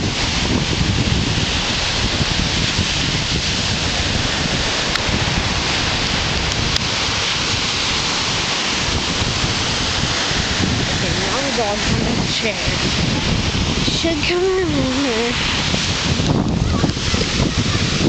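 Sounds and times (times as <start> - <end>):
ocean surf breaking on sand: 0.0 - 18.0
wind buffeting microphone: 0.0 - 18.0.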